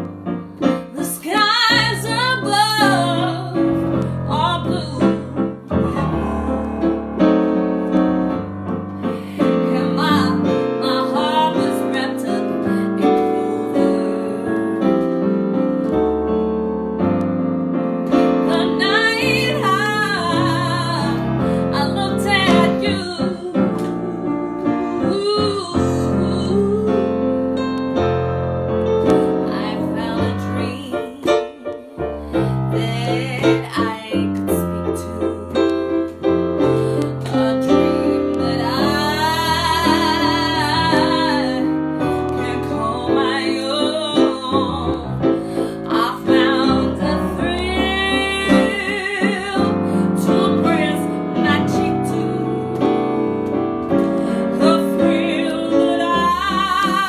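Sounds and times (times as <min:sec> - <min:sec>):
electronic keyboard piano chords: 0:00.0 - 0:57.0
woman singing: 0:00.8 - 0:06.9, 0:09.0 - 0:15.2, 0:18.1 - 0:24.3, 0:25.0 - 0:27.8, 0:29.0 - 0:57.0.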